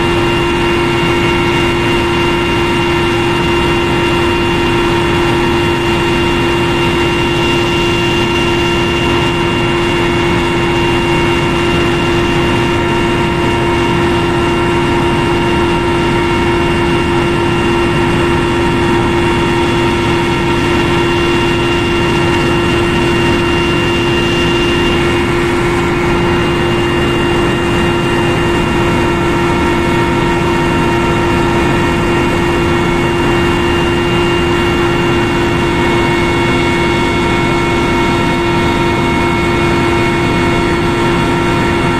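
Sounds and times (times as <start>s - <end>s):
helicopter turbine and rotor rumble: 0.0s - 41.9s
high whining tones: 0.0s - 41.9s.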